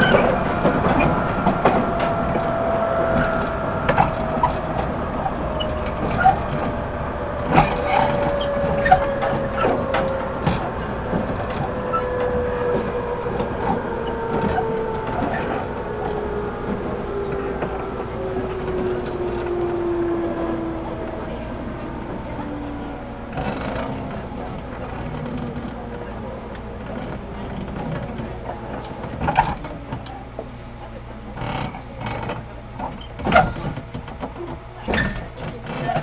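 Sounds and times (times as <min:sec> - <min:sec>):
traction motor whine: 0:00.0 - 0:29.6.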